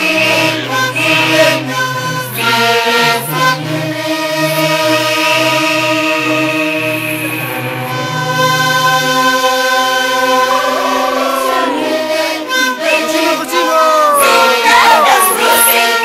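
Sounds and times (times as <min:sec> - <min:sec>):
voices singing: 0:00.0 - 0:16.0.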